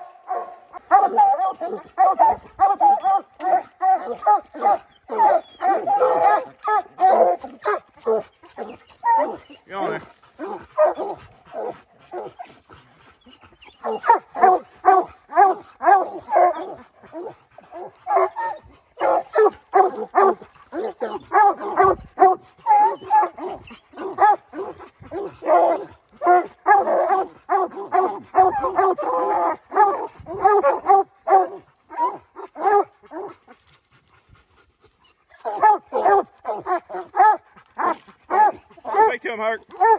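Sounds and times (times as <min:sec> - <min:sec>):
hounds barking rapidly: 0:00.3 - 0:12.6, 0:13.7 - 0:33.3, 0:35.4 - 0:39.9
hoarse rough barking: 0:00.3 - 0:12.7, 0:13.8 - 0:33.3, 0:35.4 - 0:39.9.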